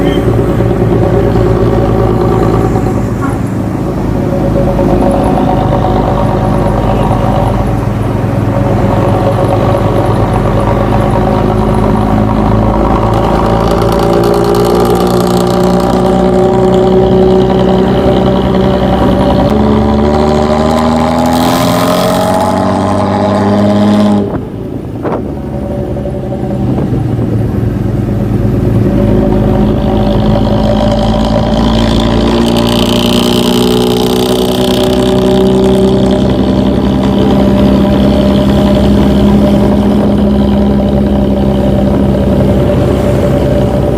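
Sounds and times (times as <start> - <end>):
bus diesel engine pulling hard: 0.0 - 43.9.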